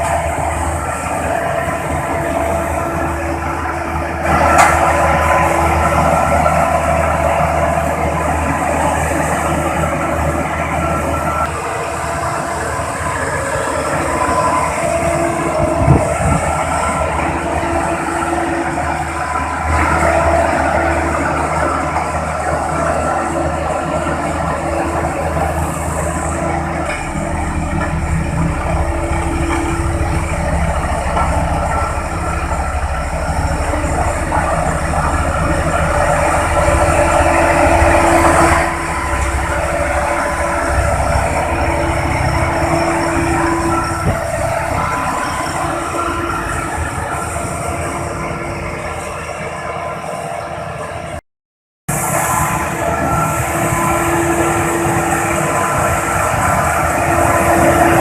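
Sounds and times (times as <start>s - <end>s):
diesel engine rumbling: 0.0s - 51.2s, 51.9s - 58.0s.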